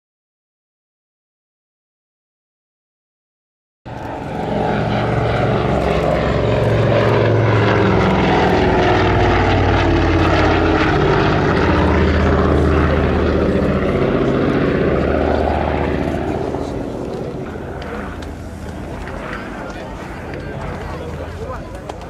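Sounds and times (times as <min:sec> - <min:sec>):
propeller aircraft engines droning: 0:03.9 - 0:22.0.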